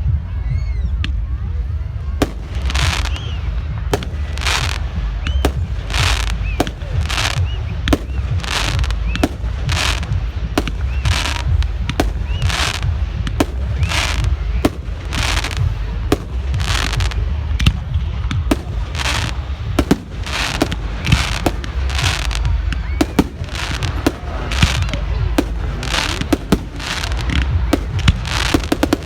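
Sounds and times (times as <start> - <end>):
low rumble: 0.0 - 29.0
fireworks crackling bursts: 1.2 - 29.0
fireworks bangs: 2.0 - 29.0.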